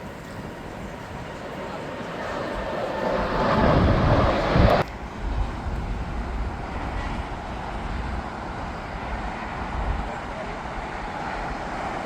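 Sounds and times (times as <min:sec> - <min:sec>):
jet engine noise: 0:00.0 - 0:12.0
steady low rumble: 0:00.0 - 0:12.0.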